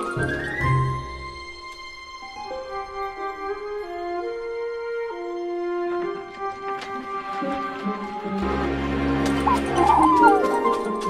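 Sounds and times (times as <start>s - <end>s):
orchestral background music: 0.0s - 11.0s.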